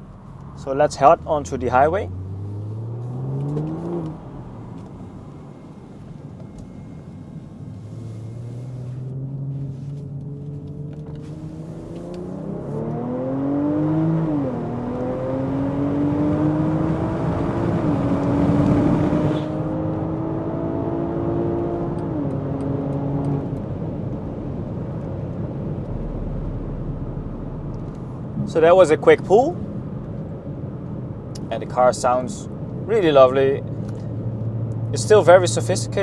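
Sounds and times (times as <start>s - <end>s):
car engine accelerating through gears: 0.0s - 36.0s.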